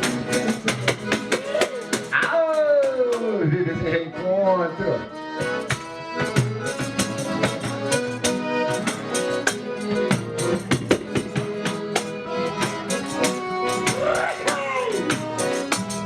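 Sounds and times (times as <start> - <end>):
sharp percussion hits: 0.0 - 3.3, 5.4 - 16.0
accordion melody: 0.0 - 16.0.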